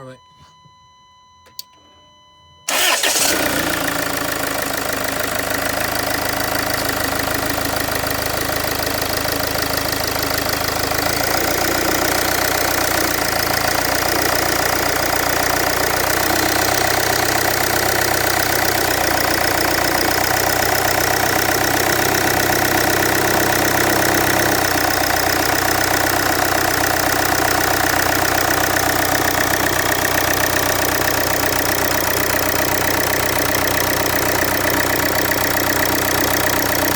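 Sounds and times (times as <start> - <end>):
car engine idling: 2.7 - 36.9
car engine starting: 2.7 - 36.9.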